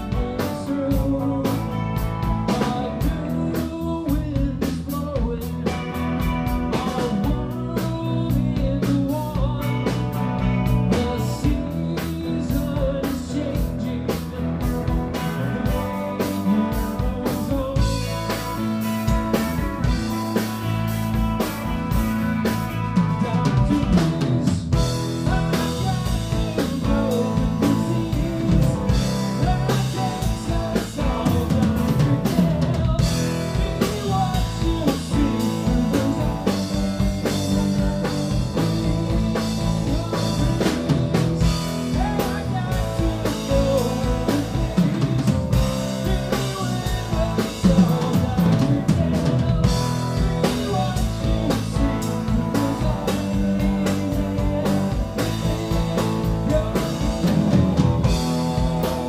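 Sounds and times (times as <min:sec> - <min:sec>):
drum kit beat: 0:00.0 - 0:59.0
electric bass: 0:00.0 - 0:59.0
electric guitars: 0:00.0 - 0:59.0
man singing: 0:00.0 - 0:59.0.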